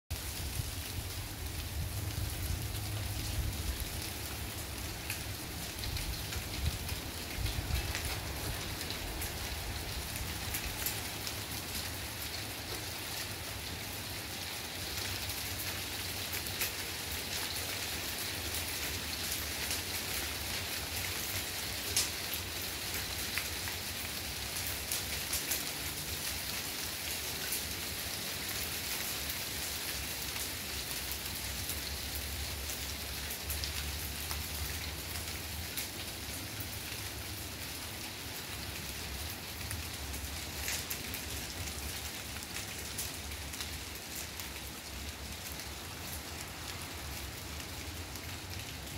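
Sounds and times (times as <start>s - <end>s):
hail pattering on leaves: 0.1s - 48.9s.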